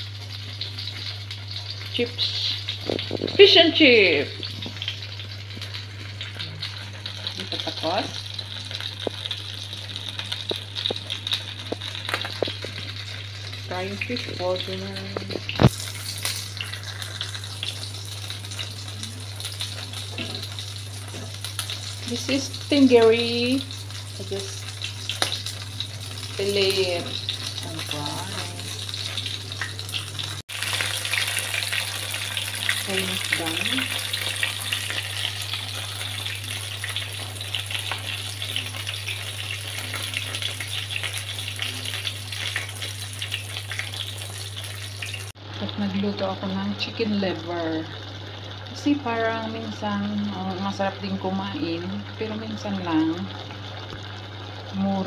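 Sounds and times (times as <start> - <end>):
oil sizzling and popping: 0.0 - 55.0.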